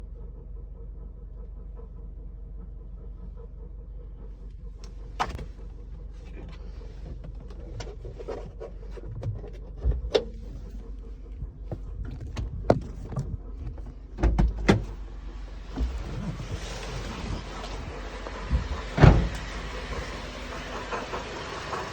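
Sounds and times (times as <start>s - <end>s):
car engine humming: 2.5s - 21.9s.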